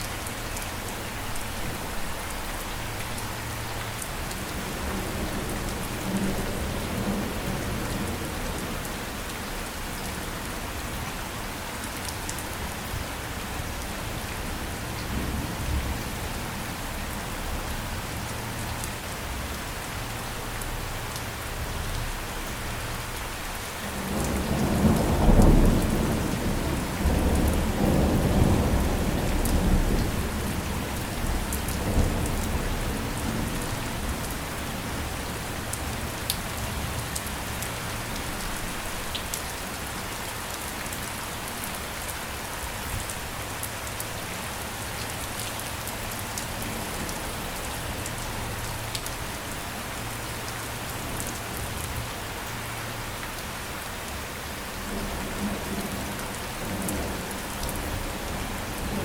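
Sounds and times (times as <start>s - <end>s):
heavy rain hissing: 0.1s - 59.0s.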